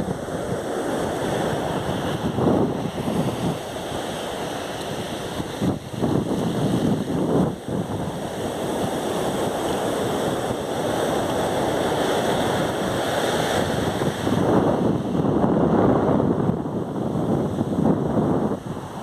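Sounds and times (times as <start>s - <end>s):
ocean surf washing on beach: 0.0s - 19.0s
wind buffeting microphone: 0.0s - 19.0s.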